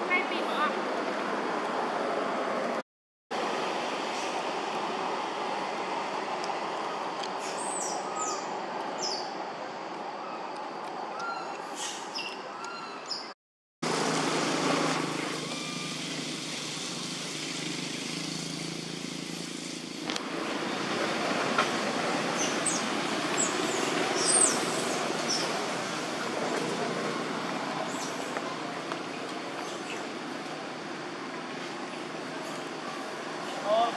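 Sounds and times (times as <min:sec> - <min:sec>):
outdoor background noise: 0:00.0 - 0:33.9.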